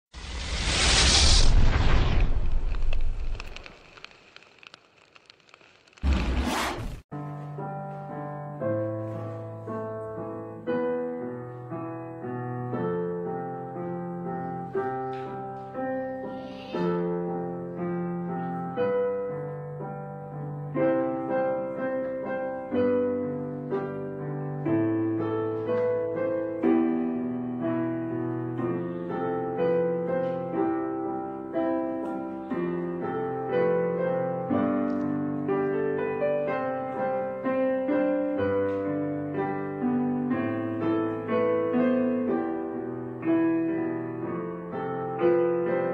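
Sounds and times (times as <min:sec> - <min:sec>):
piano music: 0:07.1 - 0:45.9.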